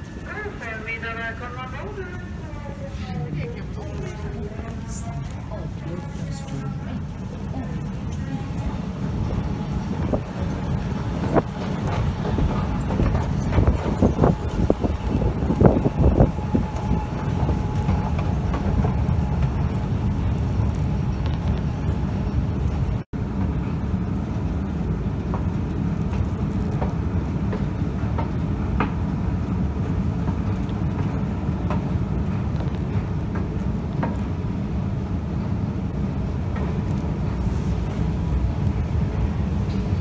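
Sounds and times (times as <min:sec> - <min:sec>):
escalator rumbling: 0:00.0 - 0:40.0.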